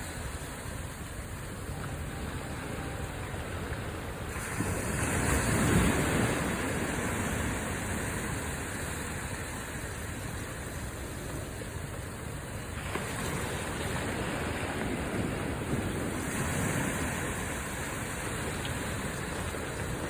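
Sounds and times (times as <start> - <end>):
small waves washing on beach: 0.0 - 20.0.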